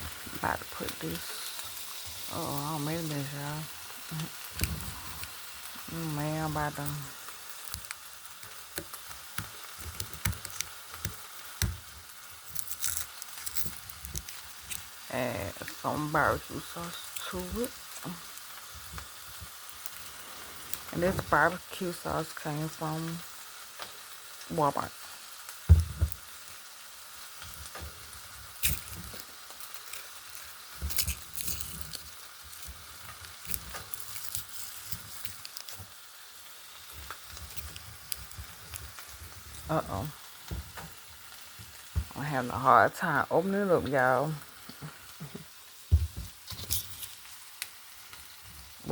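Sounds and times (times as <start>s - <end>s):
chili sizzling in a pot: 0.0s - 48.9s.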